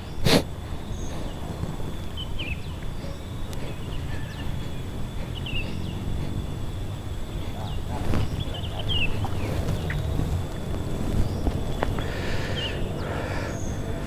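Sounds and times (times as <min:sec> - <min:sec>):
faint bird chirps: 0:00.0 - 0:14.0
wind rumble on microphone: 0:00.0 - 0:14.0.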